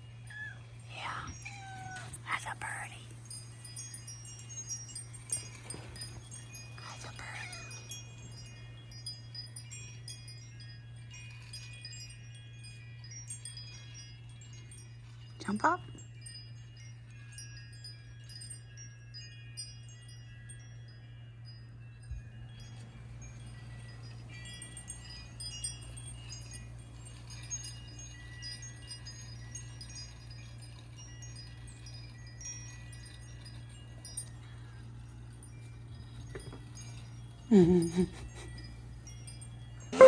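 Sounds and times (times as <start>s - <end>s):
wind chimes ringing: 0.0s - 40.0s.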